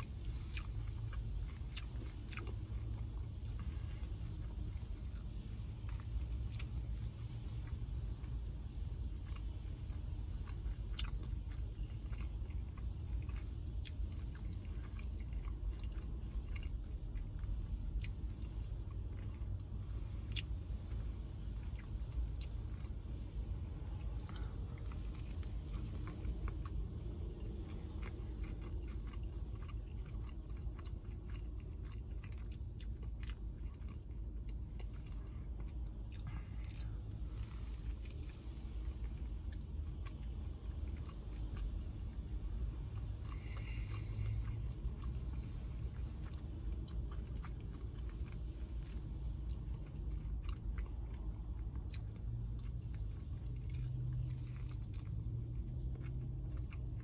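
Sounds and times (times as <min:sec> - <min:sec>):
chewing and biting sandwich: 0:00.0 - 0:57.0
steady low rumble: 0:00.0 - 0:57.0.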